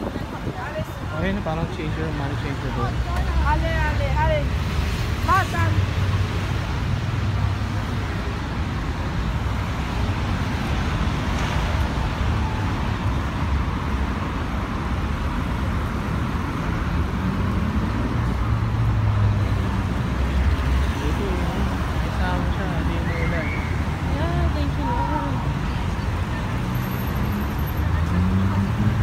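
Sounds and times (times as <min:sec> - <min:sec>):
cars passing: 0:00.0 - 0:29.0
low traffic rumble: 0:00.0 - 0:29.0.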